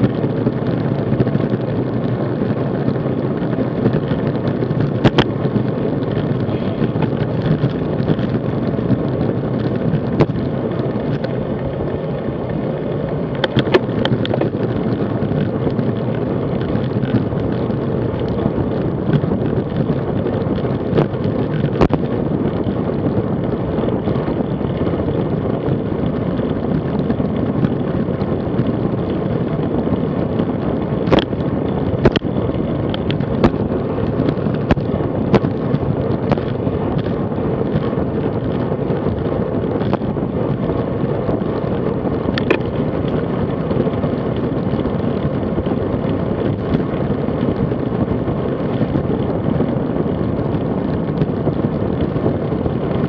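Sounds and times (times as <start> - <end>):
road rumble: 0.0 - 53.0
wind rush: 0.0 - 53.0.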